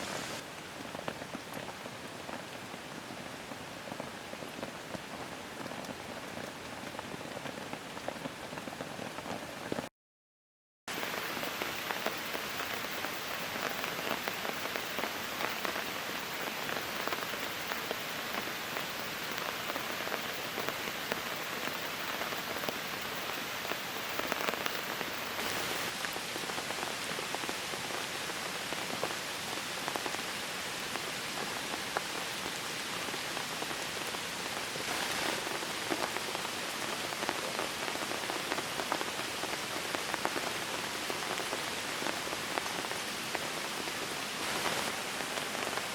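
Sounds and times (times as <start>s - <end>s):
raindrops ticking on a surface: 0.0s - 9.9s, 10.9s - 45.9s
steady rain falling: 0.0s - 9.9s, 10.9s - 45.9s.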